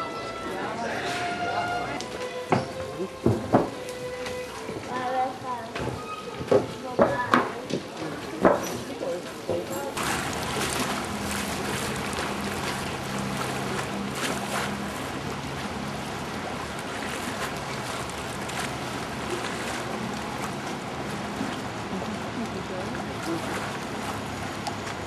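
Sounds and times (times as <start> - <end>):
water lapping against stone: 1.2 - 25.0.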